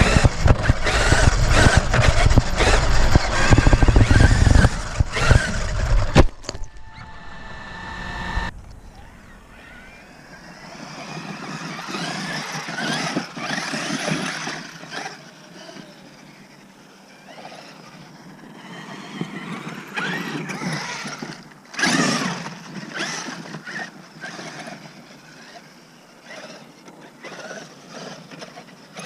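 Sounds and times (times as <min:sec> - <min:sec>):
toy truck rattling over ground: 0:00.0 - 0:06.8, 0:10.5 - 0:16.5, 0:17.2 - 0:29.0
electric motor whine: 0:00.0 - 0:29.0.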